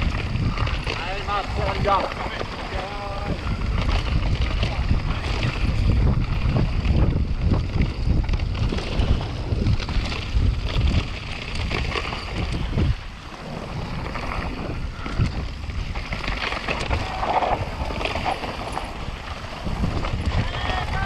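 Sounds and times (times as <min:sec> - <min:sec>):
bike rattling over rough ground: 0:00.0 - 0:21.0
wind rushing over microphone: 0:00.0 - 0:21.0.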